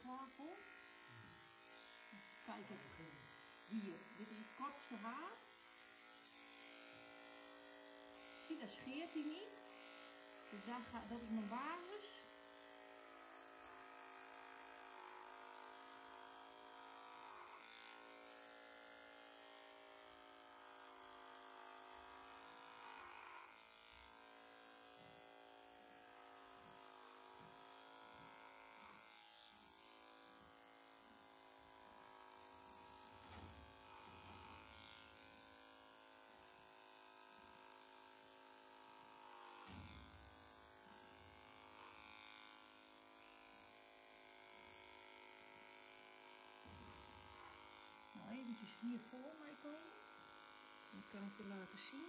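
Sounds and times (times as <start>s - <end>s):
electric clipper buzzing: 0.0s - 52.0s.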